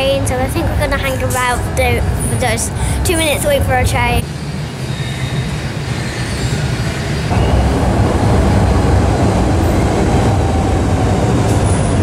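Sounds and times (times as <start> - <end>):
train rumbling into station: 0.0 - 12.0.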